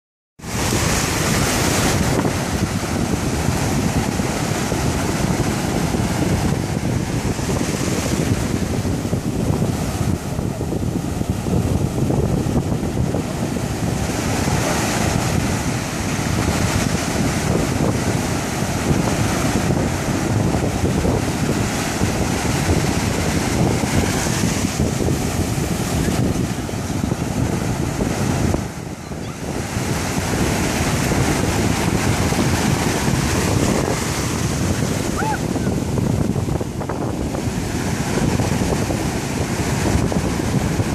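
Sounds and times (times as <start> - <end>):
surf washing in shallows: 0.4 - 40.9
wind buffeting microphone: 0.4 - 40.9.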